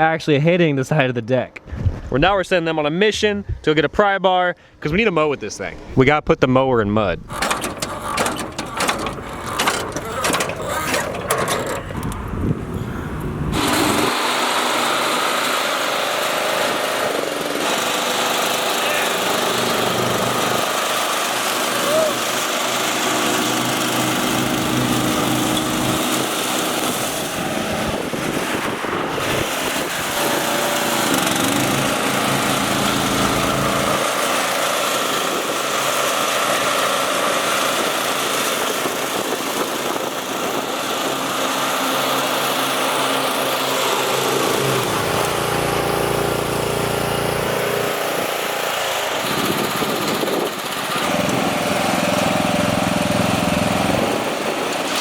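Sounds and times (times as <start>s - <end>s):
lawn mower engine running: 7.2s - 55.0s.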